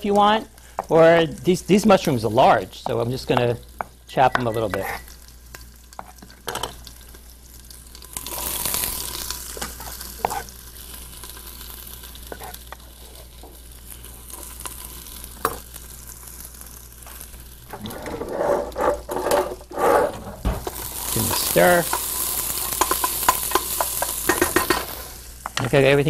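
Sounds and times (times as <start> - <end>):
onion sizzling in oil: 0.0 - 26.0.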